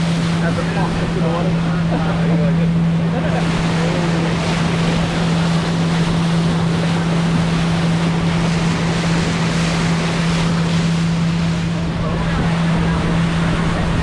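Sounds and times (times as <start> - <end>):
boat motor droning: 0.0 - 14.0
wind on microphone: 0.0 - 14.0.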